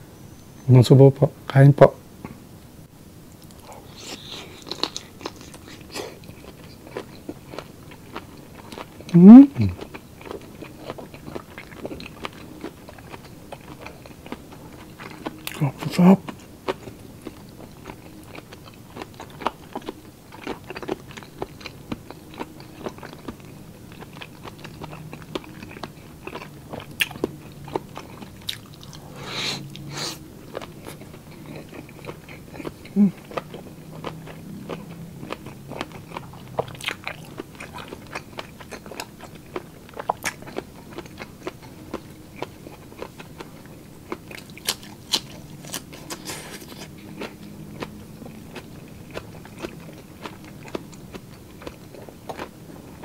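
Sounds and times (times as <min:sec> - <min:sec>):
person chewing food: 0:03.4 - 0:53.0.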